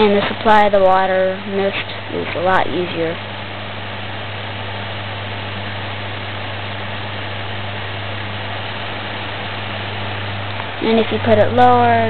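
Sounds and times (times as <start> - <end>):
electric fan running: 0.0 - 12.0.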